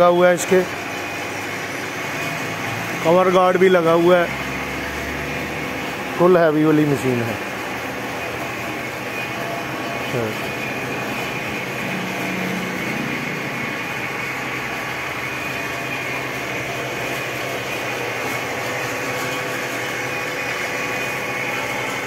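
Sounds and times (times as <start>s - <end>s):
thin high whine: 0.0s - 22.0s
workshop machinery whirring: 0.0s - 22.0s.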